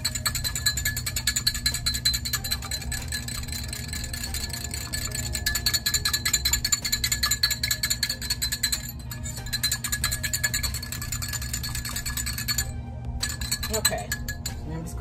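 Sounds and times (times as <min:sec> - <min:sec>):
whisk clicking against glass: 0:00.0 - 0:14.6.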